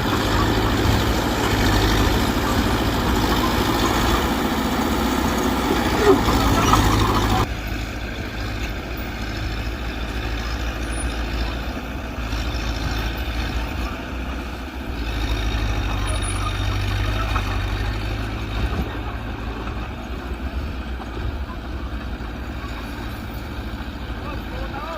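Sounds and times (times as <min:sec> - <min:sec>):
bulldozer diesel engine running: 0:00.0 - 0:24.9.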